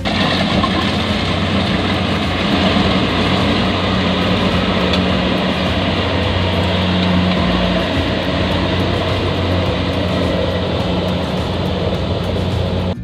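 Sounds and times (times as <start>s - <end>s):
combine harvester machinery noise: 0.0s - 13.0s
diesel engine low hum: 0.0s - 13.0s.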